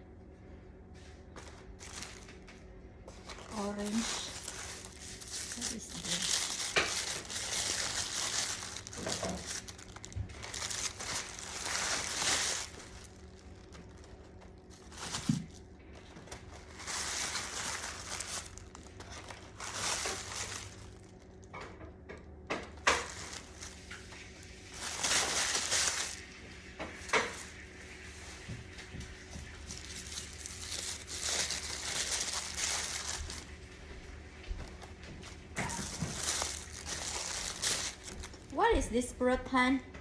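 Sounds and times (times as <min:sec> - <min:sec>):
fruit wrapping crinkling: 0:01.3 - 0:39.0.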